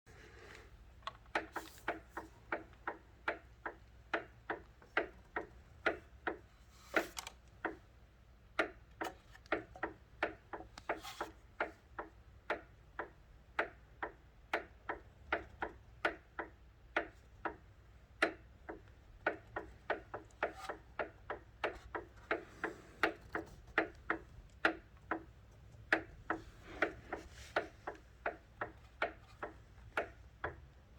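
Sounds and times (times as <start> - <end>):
sharp ticking clicks: 1.0 - 6.5, 8.5 - 30.9.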